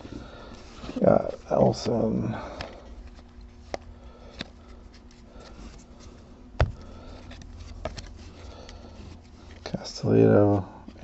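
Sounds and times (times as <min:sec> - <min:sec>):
cards clicking and rustling: 0:00.5 - 0:10.2.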